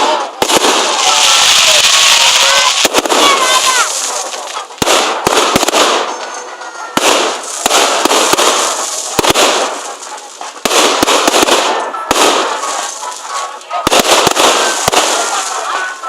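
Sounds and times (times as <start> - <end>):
fireworks bangs: 0.0 - 16.0
fireworks crackling hiss: 0.0 - 16.0.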